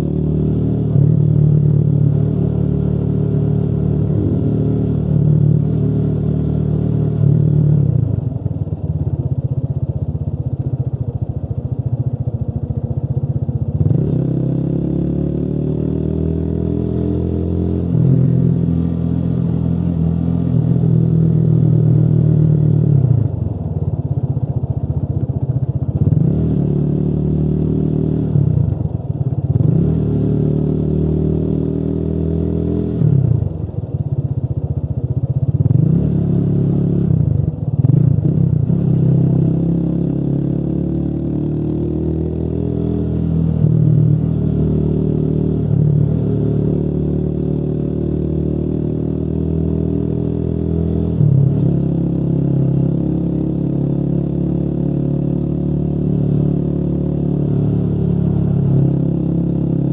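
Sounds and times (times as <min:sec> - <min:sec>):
motorcycle engine revving: 0:00.0 - 0:09.4, 0:13.4 - 0:33.9, 0:35.0 - 0:59.9.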